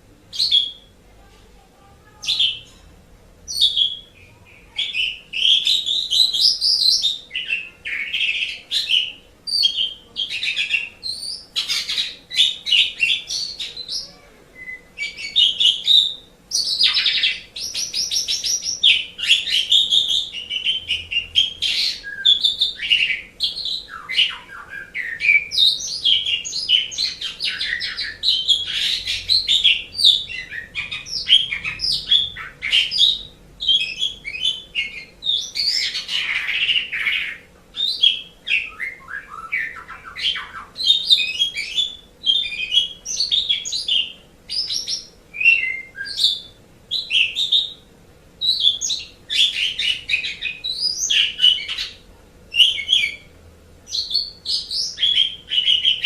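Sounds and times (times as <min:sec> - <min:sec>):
starling singing: 0:00.0 - 0:01.1, 0:02.1 - 0:02.9, 0:03.5 - 0:56.0.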